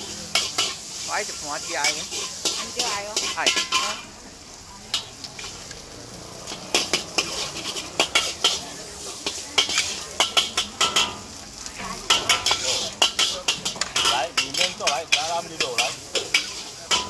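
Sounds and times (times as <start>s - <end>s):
metal spatula clanking on wok: 0.0s - 1.1s, 1.7s - 4.2s, 4.9s - 5.8s, 6.5s - 17.0s
faint sizzle: 0.0s - 17.0s.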